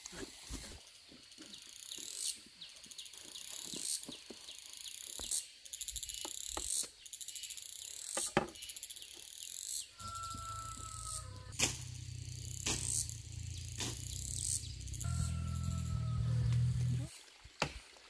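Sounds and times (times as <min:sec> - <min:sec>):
insects chirping in trills: 0:00.8 - 0:16.7.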